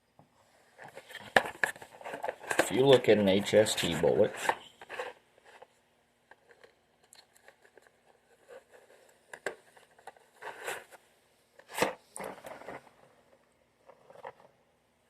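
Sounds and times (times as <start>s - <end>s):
objects rustling and scraping: 0.3s - 14.6s.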